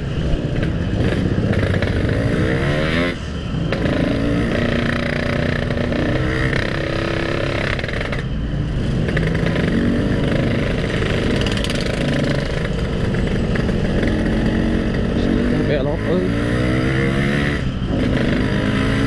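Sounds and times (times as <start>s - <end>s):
two-stroke motorcycle engine running: 0.0s - 19.0s.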